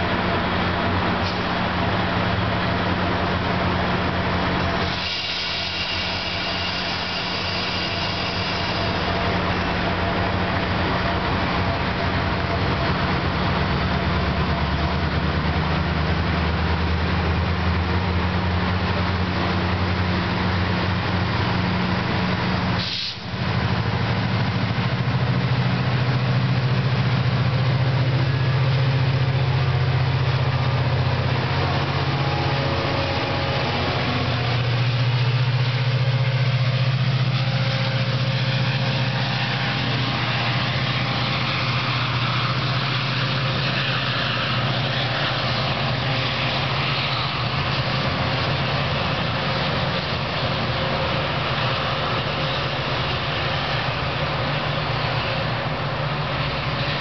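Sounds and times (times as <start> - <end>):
locomotive engine drone: 0.0 - 57.0.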